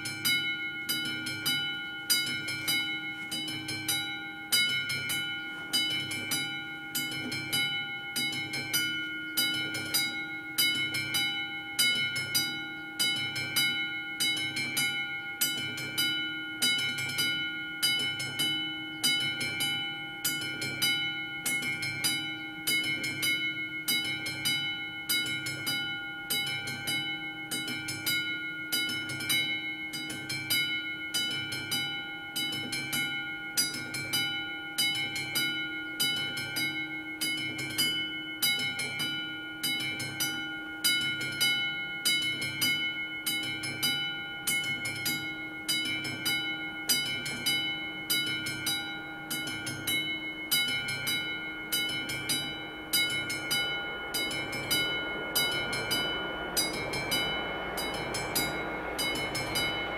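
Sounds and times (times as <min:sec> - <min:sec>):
electric warning bell ringing: 0:00.0 - 0:59.9.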